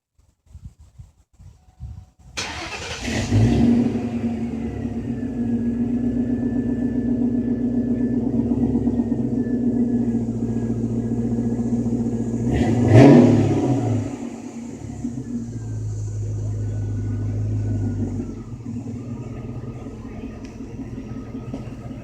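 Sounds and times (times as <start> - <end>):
car engine idling and revving: 2.4 - 22.0.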